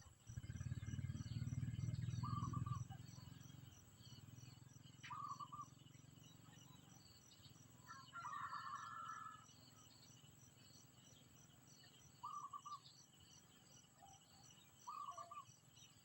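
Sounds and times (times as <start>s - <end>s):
bird chirping: 0.0s - 8.8s, 9.5s - 16.0s.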